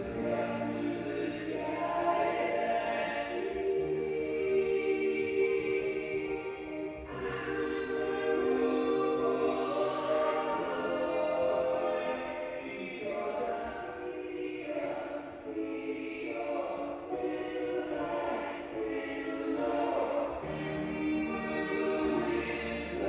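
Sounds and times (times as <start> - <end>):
choir singing slow held notes: 0.0 - 23.0.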